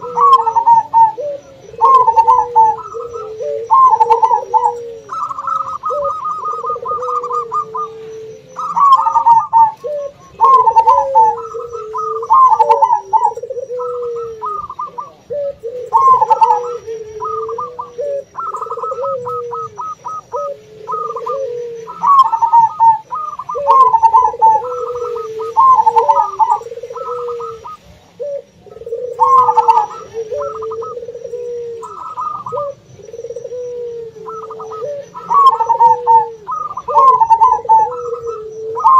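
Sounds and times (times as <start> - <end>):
doves cooing in stuttering phrases: 0.0 - 38.9
lower rounder dove coos: 0.0 - 38.9.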